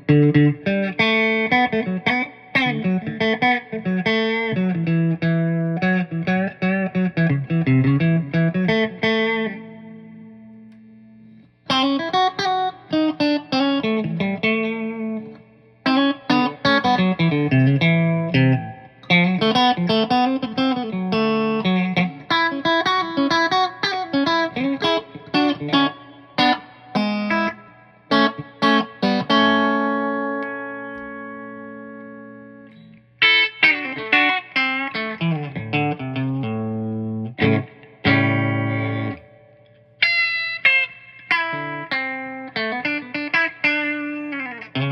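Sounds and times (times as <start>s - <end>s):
clean electric guitar playing: 0.0s - 44.9s.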